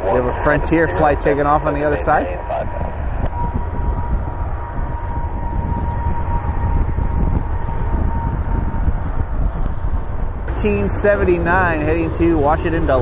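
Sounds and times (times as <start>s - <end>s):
jet airliner taking off: 0.0s - 13.0s
wind buffeting microphone: 0.0s - 13.0s.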